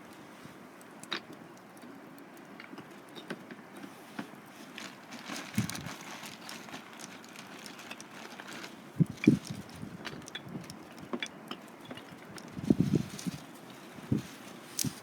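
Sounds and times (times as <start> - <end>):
campfire crackling and popping: 0.8 - 15.0.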